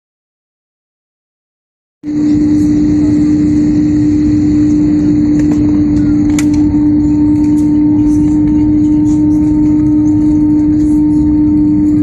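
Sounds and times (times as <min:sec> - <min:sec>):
jet engines humming in cabin: 0:02.0 - 0:12.0.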